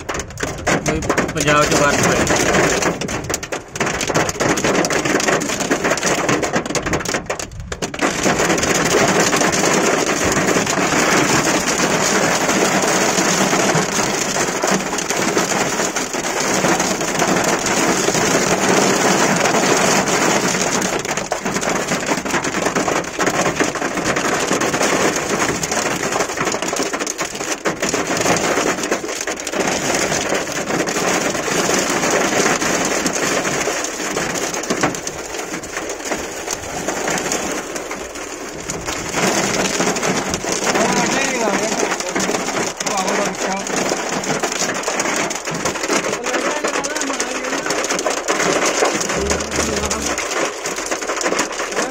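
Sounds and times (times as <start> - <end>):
rain and hail on car roof: 0.0 - 51.9.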